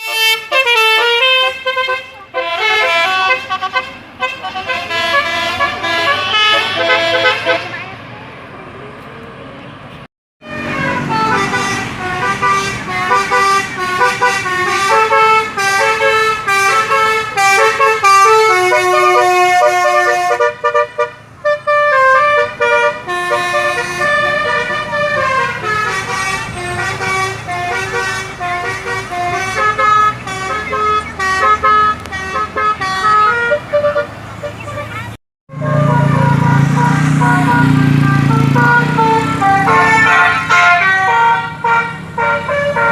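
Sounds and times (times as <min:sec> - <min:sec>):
musical air horn tune: 0:00.0 - 0:07.8, 0:10.4 - 0:42.9.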